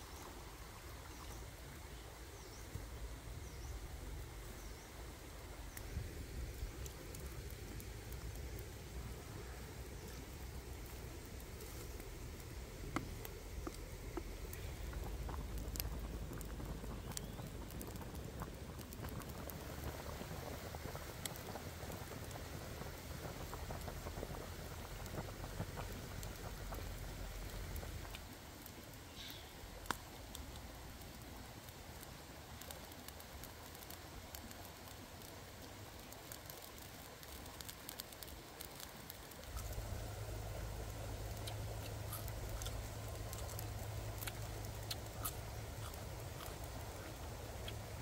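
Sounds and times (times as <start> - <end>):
curry bubbling in a wok: 0.0 - 48.0.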